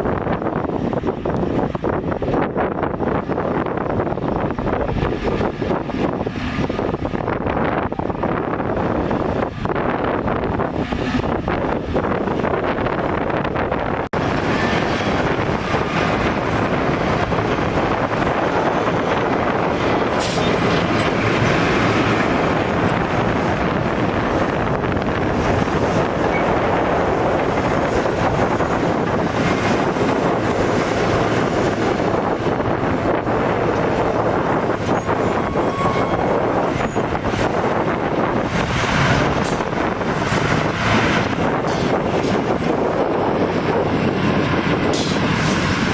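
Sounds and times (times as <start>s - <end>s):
heavy machinery rumbling: 0.1s - 45.9s.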